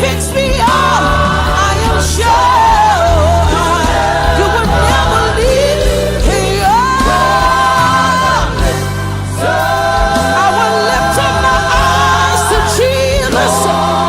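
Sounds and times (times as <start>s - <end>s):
band with bass and drums: 0.0s - 14.0s
gospel choir singing: 0.0s - 14.0s.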